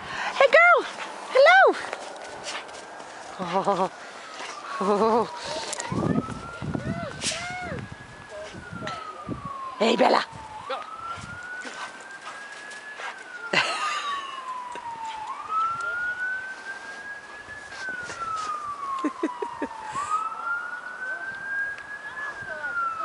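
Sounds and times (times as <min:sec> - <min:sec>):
emergency vehicle siren wailing: 0:00.0 - 0:23.0.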